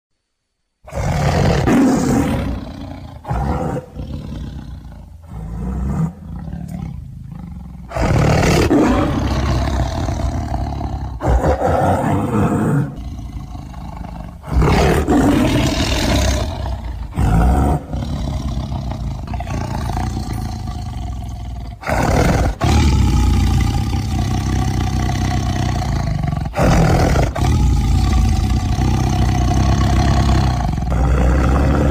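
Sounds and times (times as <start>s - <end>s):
tiger roaring: 0.8s - 31.9s.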